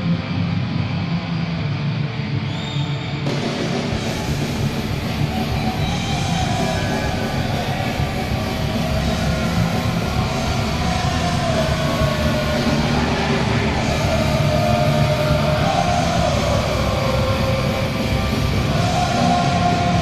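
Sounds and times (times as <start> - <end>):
heavy rock music over loudspeakers: 0.0 - 20.0.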